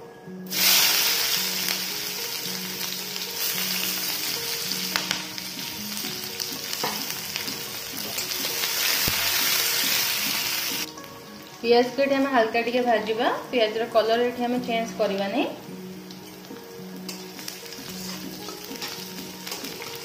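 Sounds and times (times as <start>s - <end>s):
onion sizzling in hot oil: 0.5s - 20.0s.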